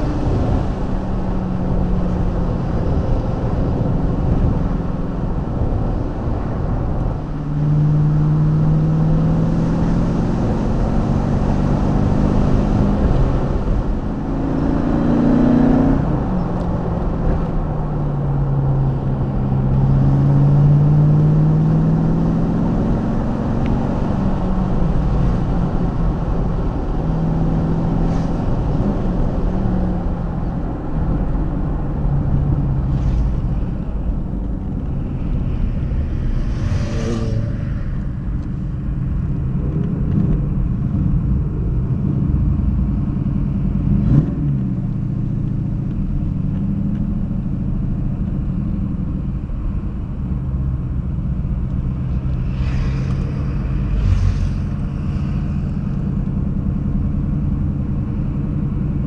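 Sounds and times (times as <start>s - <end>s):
car engine running: 0.0s - 59.0s
tyre and road rumble: 0.0s - 59.0s.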